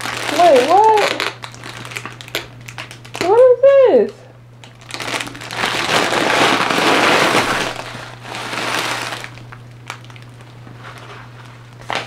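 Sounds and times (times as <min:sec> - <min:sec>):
plastic packaging crinkling: 0:00.0 - 0:03.4, 0:04.6 - 0:12.0.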